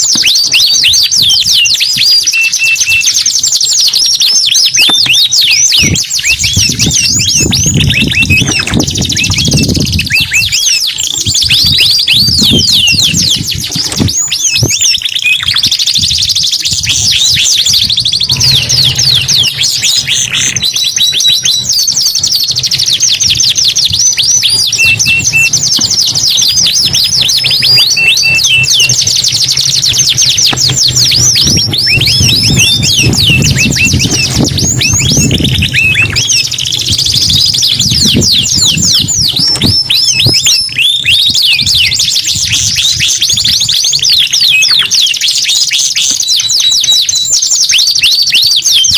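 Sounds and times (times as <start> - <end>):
canaries singing trills: 0.0 - 48.9.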